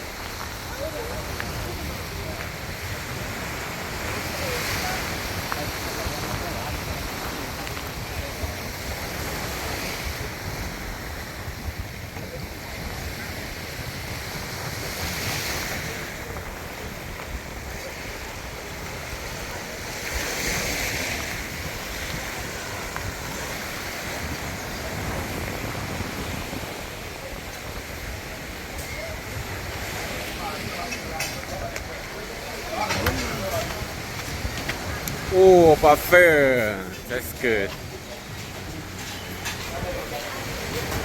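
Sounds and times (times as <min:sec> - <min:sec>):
waves surging: 0:00.0 - 0:41.0
wind buffeting microphone: 0:00.0 - 0:41.0.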